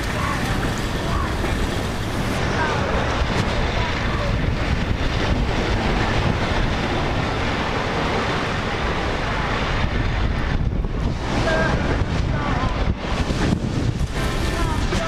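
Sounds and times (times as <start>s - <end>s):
waves breaking on sand beach: 0.0s - 15.0s
wind buffeting microphone: 0.0s - 15.0s.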